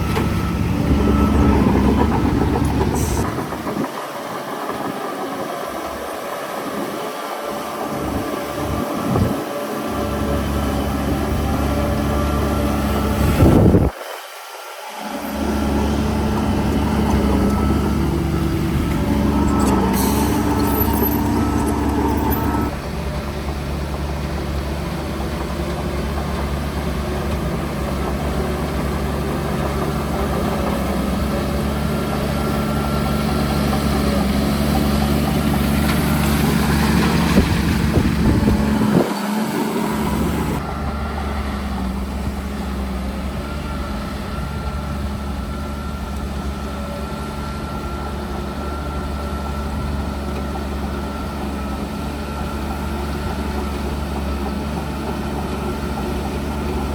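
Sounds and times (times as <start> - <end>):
heavy vehicle engine running: 0.0 - 14.0, 14.9 - 56.9.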